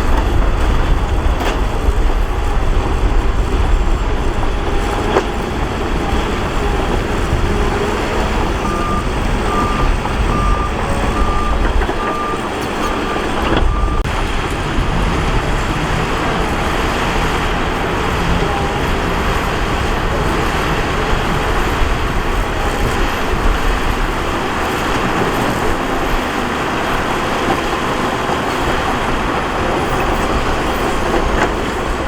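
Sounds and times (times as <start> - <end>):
diesel earthmoving machinery working: 0.0 - 32.0.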